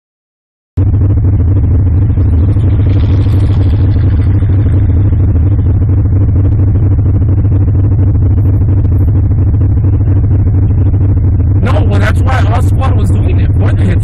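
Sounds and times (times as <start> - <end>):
car engine rumbling: 0.8 - 14.0.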